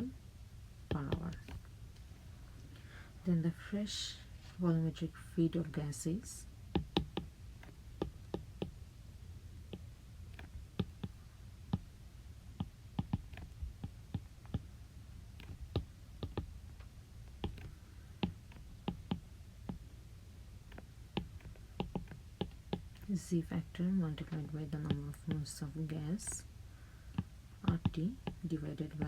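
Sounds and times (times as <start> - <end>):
faint low steady hum: 0.0 - 29.0.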